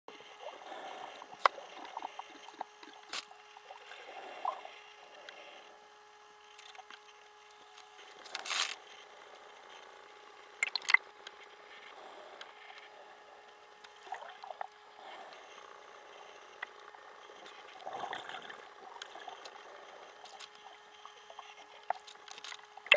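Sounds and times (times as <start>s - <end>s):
faint steady hum: 0.1s - 22.9s
low underwater noise: 0.1s - 22.9s.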